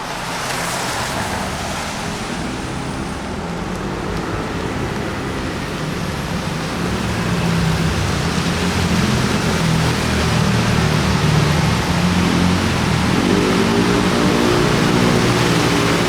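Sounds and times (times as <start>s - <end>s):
hiss of tyres and rain: 0.0s - 16.0s
vehicle engines humming: 0.0s - 16.0s.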